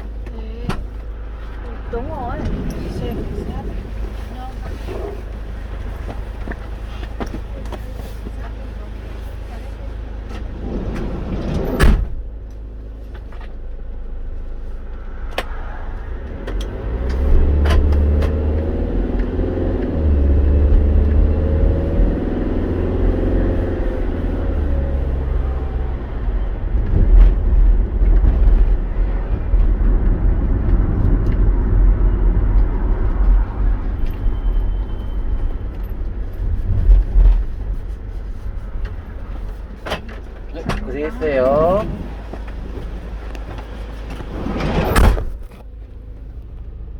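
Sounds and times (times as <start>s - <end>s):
road noise inside vehicle: 0.0s - 46.9s
vehicle engine accelerating: 0.0s - 46.9s.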